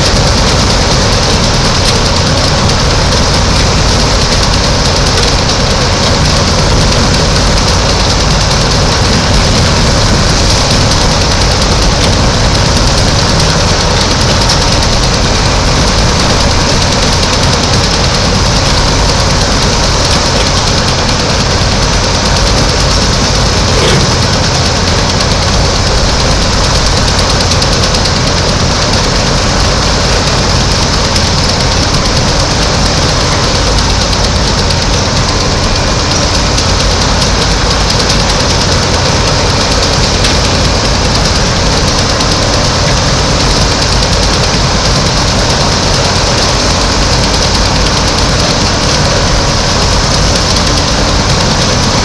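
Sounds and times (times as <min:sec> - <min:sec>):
heavy machinery engine drone: 0:00.0 - 0:52.0.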